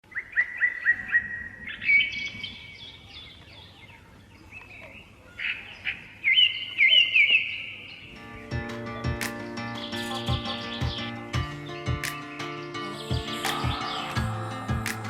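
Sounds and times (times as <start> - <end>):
songbirds chirping and warbling: 0.1 - 15.0.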